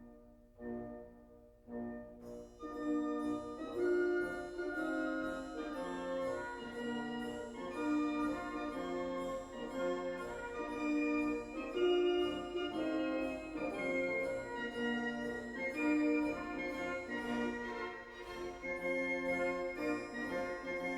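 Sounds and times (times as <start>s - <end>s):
organ-like instrumental music: 2.6s - 20.9s.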